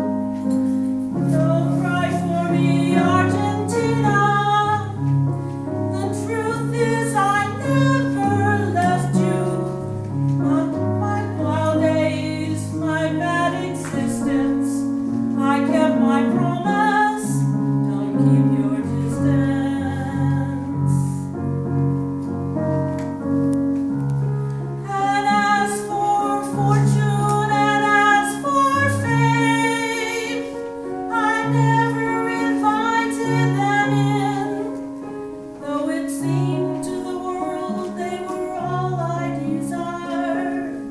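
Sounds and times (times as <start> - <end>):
piano or keyboard: 0.0 - 40.9
woman singing: 1.2 - 5.1, 5.9 - 9.8, 10.4 - 21.3, 24.8 - 34.9, 35.6 - 40.9.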